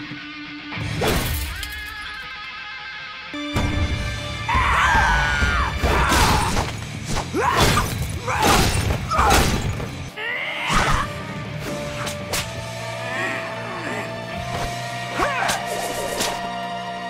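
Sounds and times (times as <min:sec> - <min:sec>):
dramatic action music: 0:03.3 - 0:17.0.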